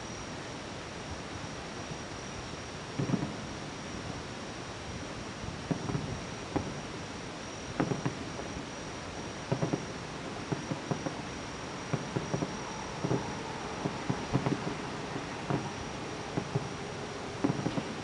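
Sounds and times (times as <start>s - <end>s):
steady hiss: 0.0s - 18.0s
high insect trill: 1.3s - 18.0s
distant fireworks bursting: 1.8s - 18.0s.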